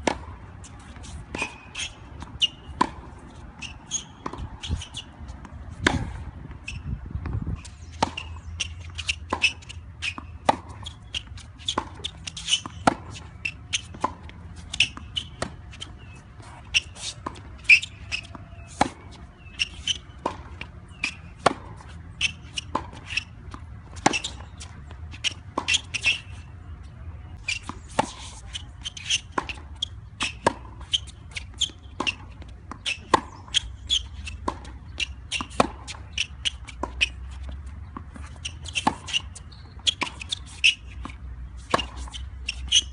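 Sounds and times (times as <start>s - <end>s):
tennis balls bouncing on court: 0.0s - 42.9s
tennis balls struck by rackets: 0.0s - 42.9s.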